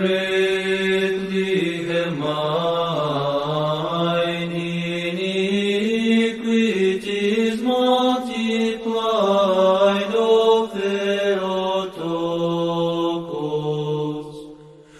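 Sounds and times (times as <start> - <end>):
voices chanting a hymn: 0.0 - 14.9.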